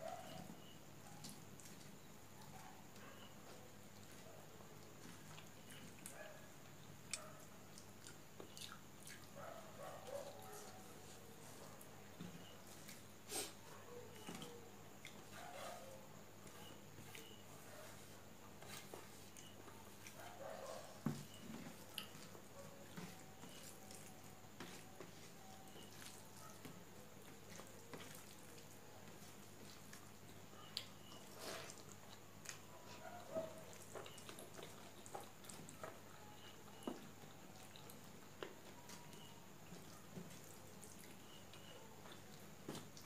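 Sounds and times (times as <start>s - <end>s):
fingers mixing rice wet squishing: 0.6s - 6.2s, 7.0s - 13.1s, 16.4s - 43.0s.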